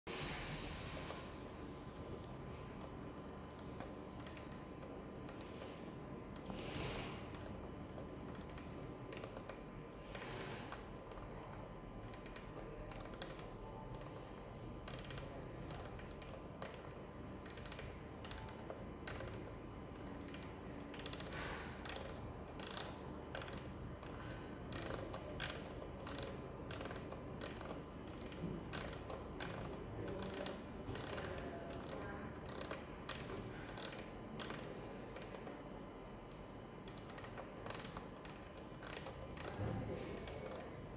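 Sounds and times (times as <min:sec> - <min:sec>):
rotary knob detents clicking: 0:02.0 - 0:35.6, 0:36.2 - 0:40.9.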